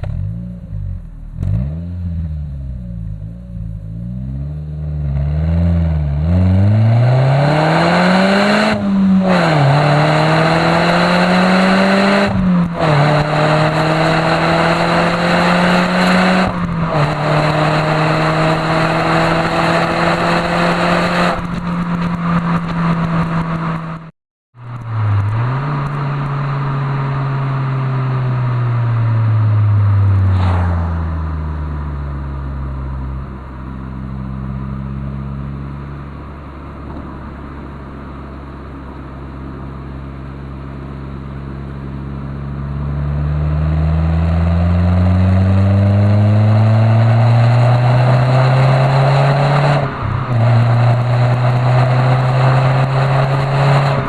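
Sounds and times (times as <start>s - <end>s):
car engine revving through exhaust: 0.0s - 54.0s.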